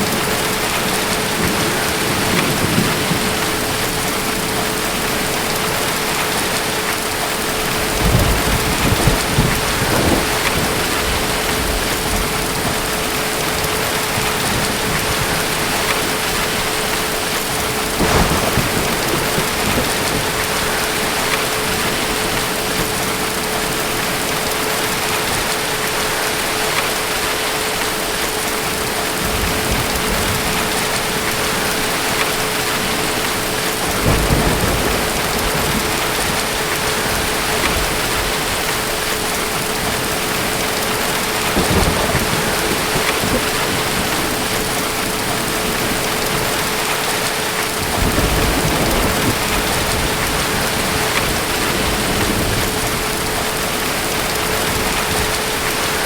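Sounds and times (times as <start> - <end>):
distant thunder rumbling: 0.0 - 25.6, 28.9 - 56.0
heavy rain falling: 0.0 - 56.0.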